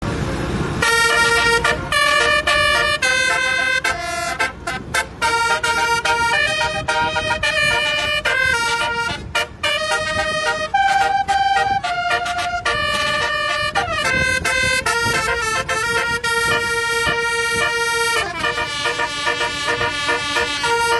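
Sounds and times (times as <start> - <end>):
multi-tone bus horn melody: 0.2 - 20.9.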